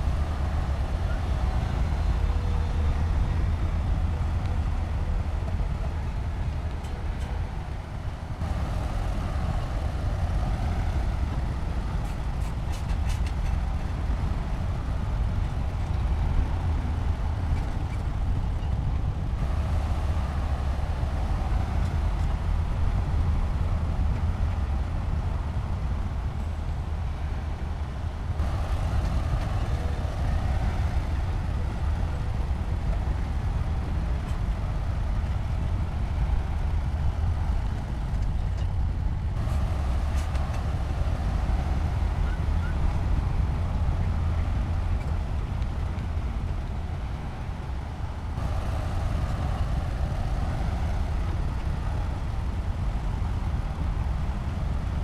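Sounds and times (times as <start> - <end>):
diesel engine rumbling: 0.0 - 55.0.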